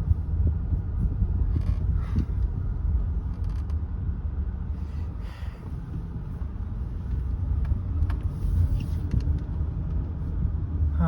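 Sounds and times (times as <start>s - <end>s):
car engine and road noise rumble: 0.0s - 11.0s.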